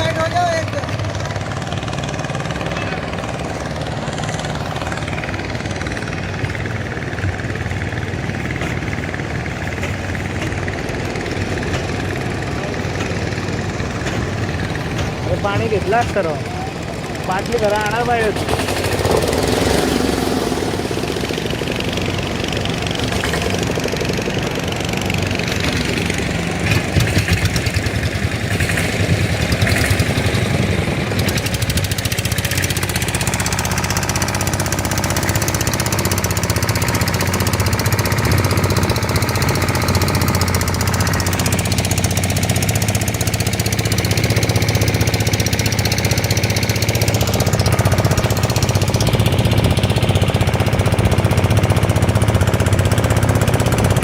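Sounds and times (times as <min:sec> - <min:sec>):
motorboat engine chugging: 0:00.0 - 0:54.0.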